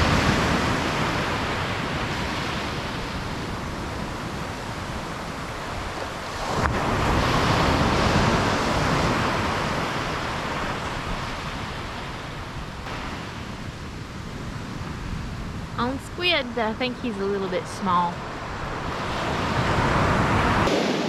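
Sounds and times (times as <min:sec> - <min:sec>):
small waves breaking on sand: 0:00.0 - 0:16.5, 0:17.9 - 0:21.0.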